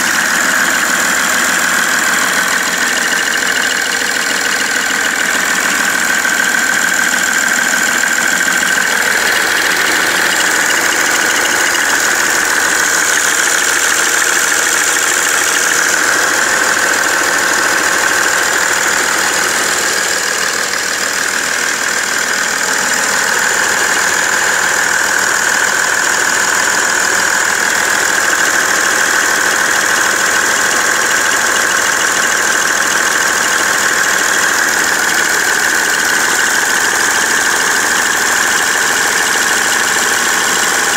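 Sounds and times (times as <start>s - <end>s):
diesel engine idling with knock: 0.0s - 40.9s.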